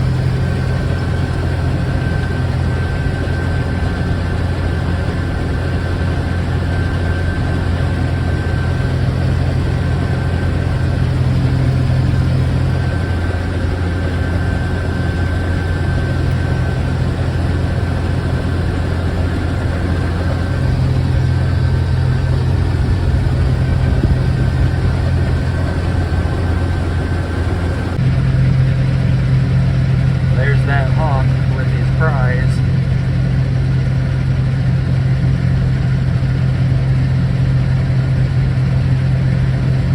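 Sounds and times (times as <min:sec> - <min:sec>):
faint steady whine: 0:00.0 - 0:35.0
combine harvester engine drone: 0:00.0 - 0:39.9.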